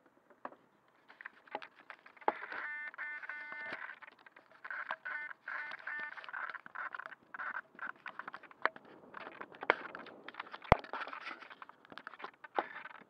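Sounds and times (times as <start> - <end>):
handling taps clicks and scrapes: 0.0 - 13.0.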